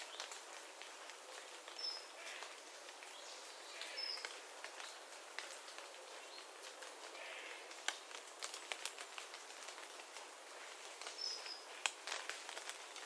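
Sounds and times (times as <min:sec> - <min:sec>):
water dripping onto leaves: 0:00.0 - 0:13.0.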